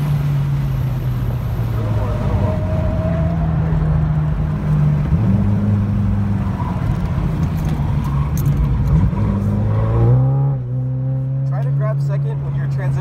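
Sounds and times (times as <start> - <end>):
car engine at low revs: 0.0 - 13.0
road and tyre noise: 0.0 - 13.0.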